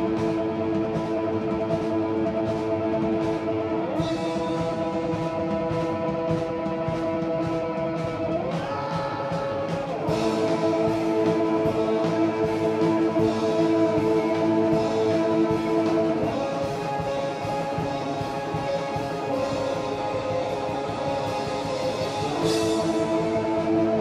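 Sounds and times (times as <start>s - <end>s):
distorted electric guitar chords: 0.0s - 24.0s.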